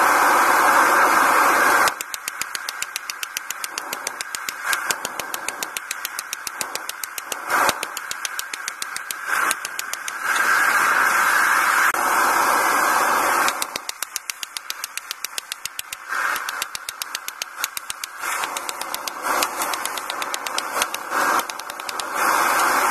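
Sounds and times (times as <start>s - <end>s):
hammer blows on hot steel: 1.8s - 11.2s, 13.3s - 22.9s.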